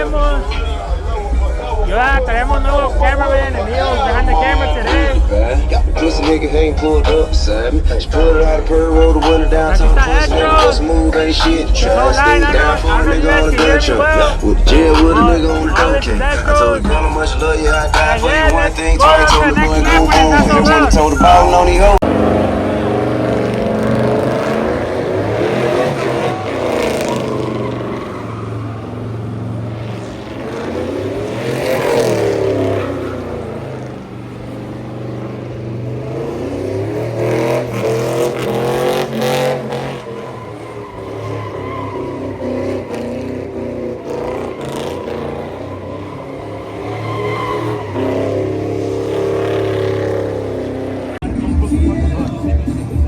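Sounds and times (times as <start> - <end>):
truck engines revving: 0.0 - 53.0.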